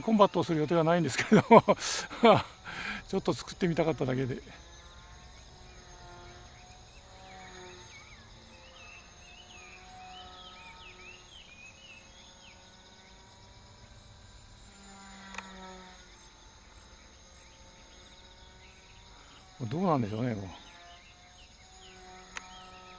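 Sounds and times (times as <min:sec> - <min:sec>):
faint wavering whine: 0:00.0 - 0:22.9
insect chirring: 0:00.0 - 0:22.9.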